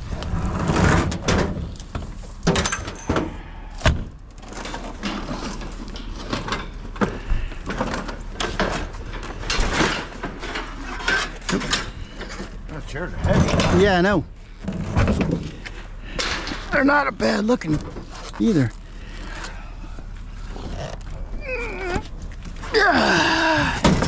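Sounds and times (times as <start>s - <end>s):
scrap metal scraping and clanking: 0.0s - 3.8s, 4.4s - 24.0s.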